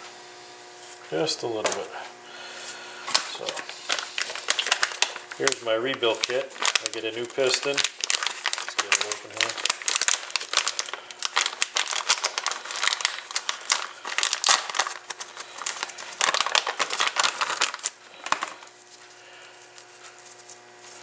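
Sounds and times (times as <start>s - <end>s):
packaging crinkling and rustling: 3.0s - 21.0s.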